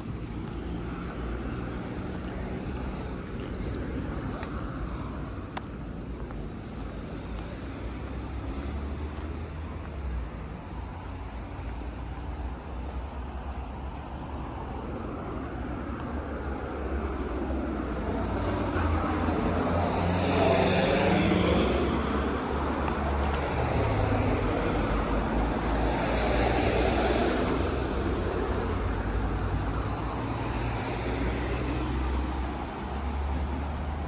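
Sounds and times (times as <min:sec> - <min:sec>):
cars driving past: 0:00.0 - 0:34.0.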